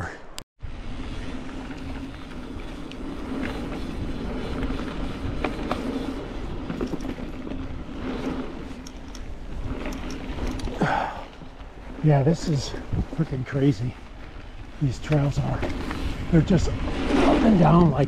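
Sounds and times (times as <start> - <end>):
mountain bike riding hum: 0.6 - 18.0
bike ticks and rattles: 0.7 - 18.0.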